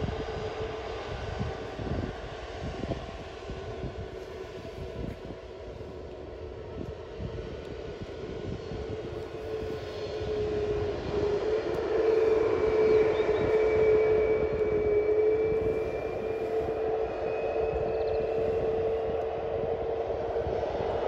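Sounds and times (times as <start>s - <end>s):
higher engine whine: 0.0s - 21.0s
jet engine whine: 0.0s - 21.0s.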